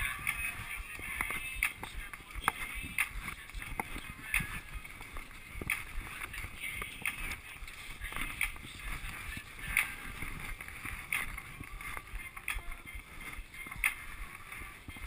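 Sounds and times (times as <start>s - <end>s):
skis swishing and crunching on snow: 0.0s - 15.0s.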